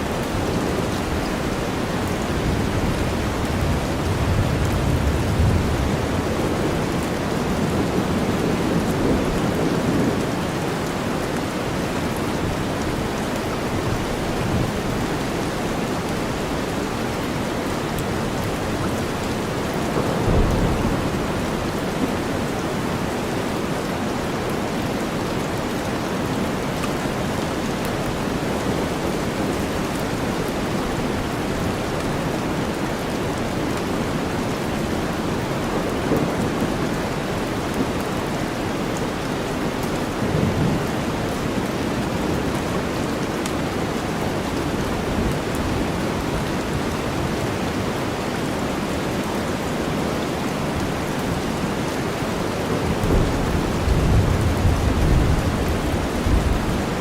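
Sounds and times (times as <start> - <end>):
steady rainstorm: 0.0 - 57.0.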